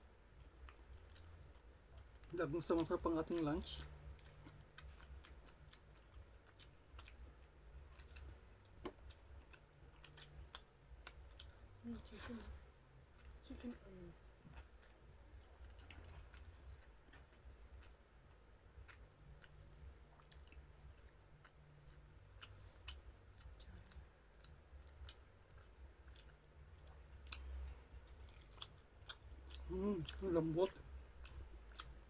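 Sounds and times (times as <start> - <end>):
chewing and mouth smacks: 0.2 - 11.8, 13.0 - 32.0.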